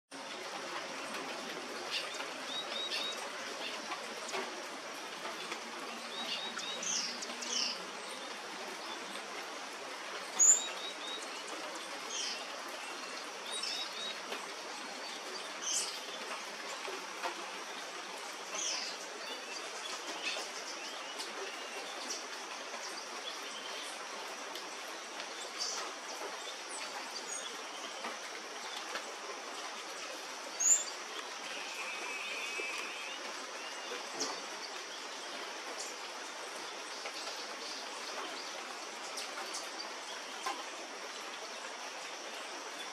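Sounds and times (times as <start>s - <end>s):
rainforest birds calling: 0.1s - 42.9s.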